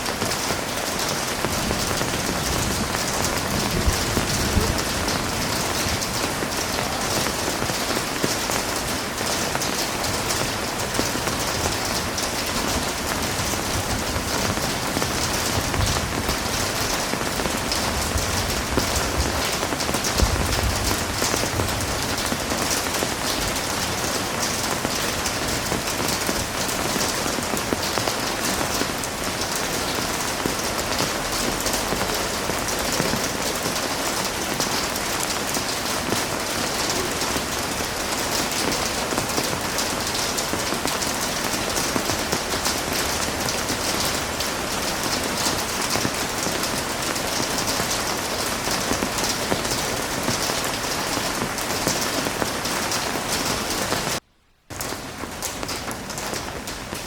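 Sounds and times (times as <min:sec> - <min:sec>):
heavy rain on hard surface: 0:00.0 - 0:57.0.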